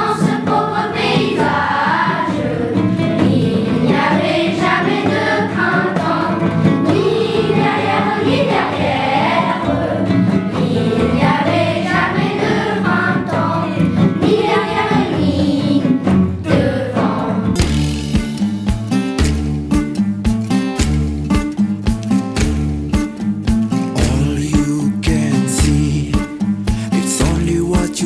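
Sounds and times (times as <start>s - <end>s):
group singing with instruments: 0.0s - 19.6s, 23.8s - 28.0s.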